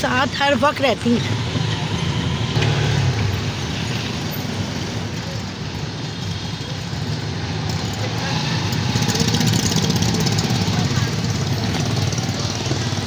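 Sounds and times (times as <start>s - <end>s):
auto-rickshaw engine running: 0.0s - 13.0s
road and traffic noise: 0.0s - 13.0s.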